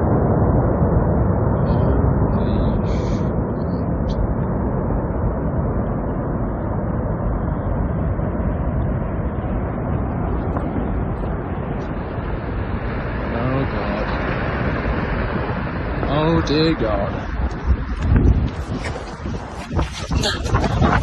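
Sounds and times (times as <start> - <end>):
avalanche rumble: 0.0 - 21.0.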